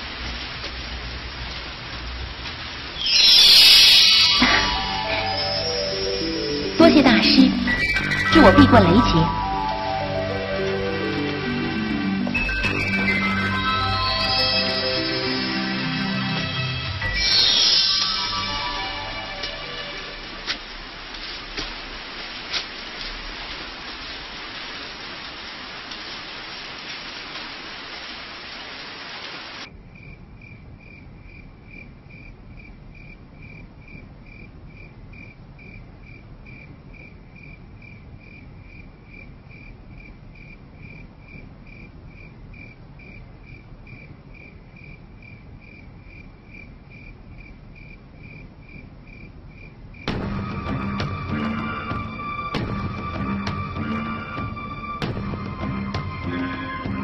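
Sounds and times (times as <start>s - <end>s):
steady rain: 0.0s - 57.0s
crickets chirping: 2.7s - 25.6s, 29.6s - 52.6s.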